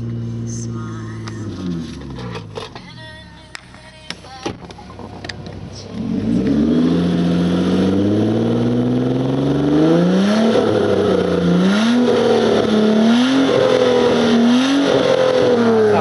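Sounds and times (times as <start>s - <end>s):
car engine revving: 0.0s - 4.0s, 4.6s - 16.0s.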